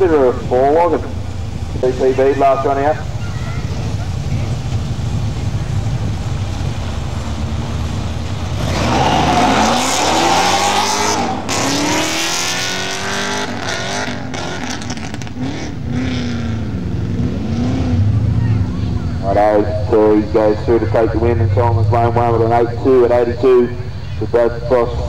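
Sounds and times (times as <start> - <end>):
drag race cars accelerating: 0.0 - 25.0.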